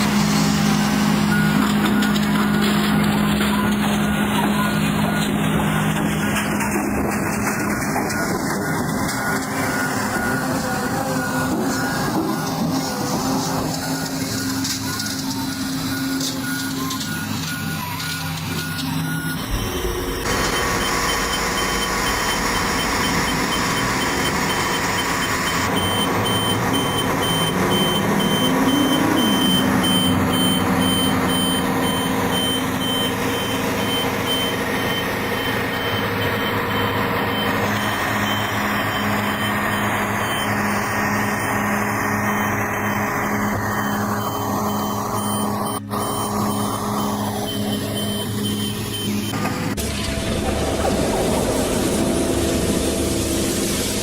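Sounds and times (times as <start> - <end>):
heavy vehicle engine running: 0.0 - 54.0
reversing alarm beeping: 0.3 - 53.8.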